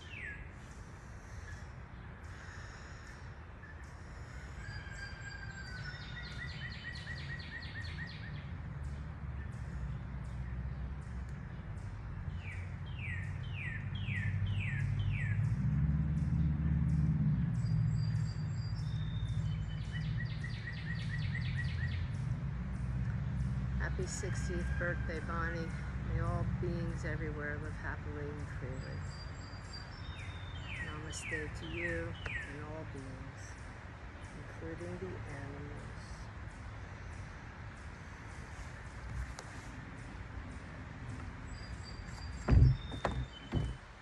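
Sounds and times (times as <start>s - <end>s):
songbirds singing and calling: 0.0s - 44.0s.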